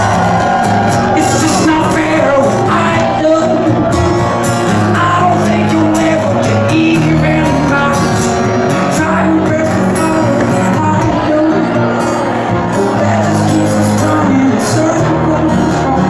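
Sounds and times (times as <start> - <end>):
acoustic guitar: 0.0 - 16.0
man singing: 0.0 - 16.0
steady bass: 0.0 - 16.0.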